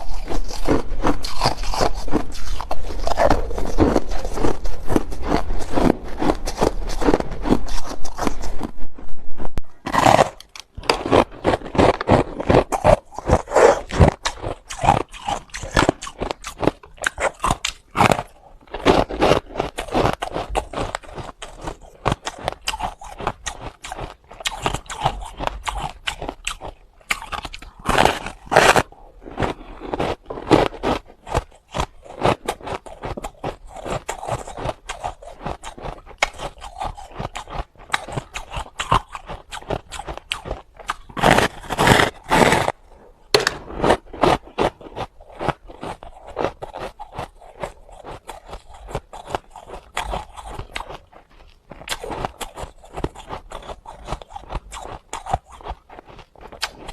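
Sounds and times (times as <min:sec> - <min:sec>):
chewing hard ice: 0:00.0 - 0:56.9.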